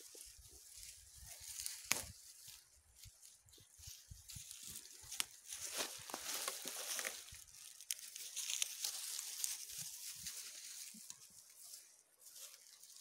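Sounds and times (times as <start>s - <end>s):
dry leaves crunching underfoot: 0.0s - 13.0s.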